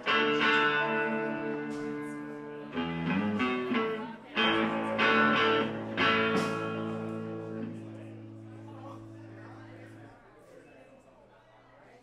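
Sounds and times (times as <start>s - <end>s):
electric guitar strumming chords: 0.0s - 10.1s.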